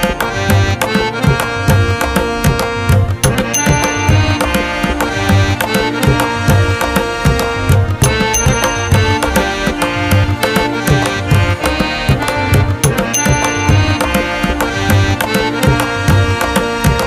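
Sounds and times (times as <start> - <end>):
music with tabla-like drums: 0.0 - 17.0.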